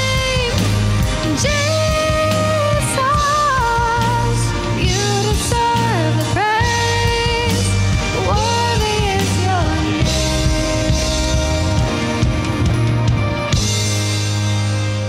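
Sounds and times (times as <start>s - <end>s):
person singing lead vocal: 0.0s - 13.2s
band playing worship song: 0.0s - 15.0s.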